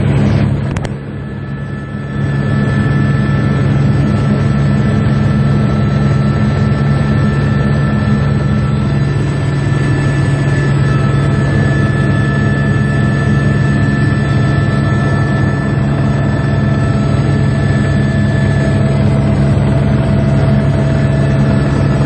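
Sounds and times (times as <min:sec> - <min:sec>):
helicopter engine and rotor drone: 0:00.0 - 0:22.0
high whine: 0:00.0 - 0:22.0.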